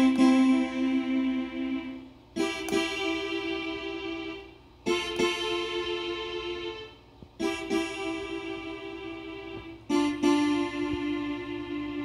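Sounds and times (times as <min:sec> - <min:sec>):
digital keyboard chord: 0:00.0 - 0:12.0.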